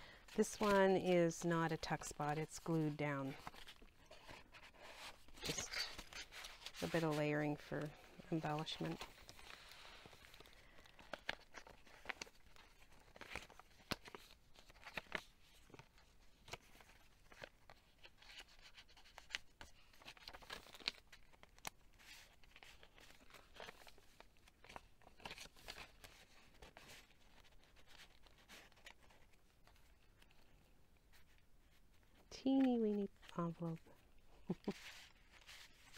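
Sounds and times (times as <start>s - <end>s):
paper pages rustling: 0.2s - 1.2s, 2.3s - 35.9s.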